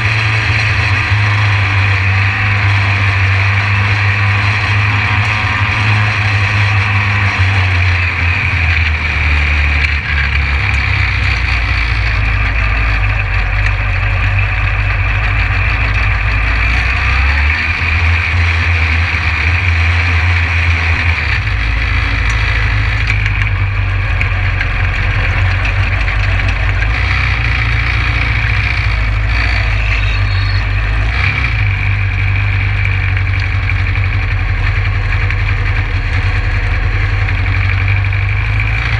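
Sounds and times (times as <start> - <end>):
race car engine idling: 0.0 - 38.9.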